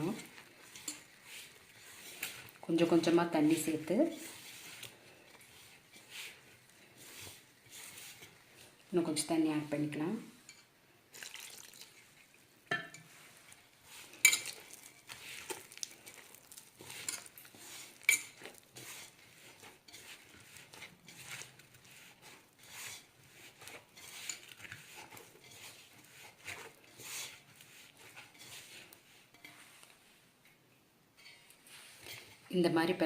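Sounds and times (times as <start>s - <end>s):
hands kneading dough: 0.0s - 9.9s, 13.0s - 30.3s.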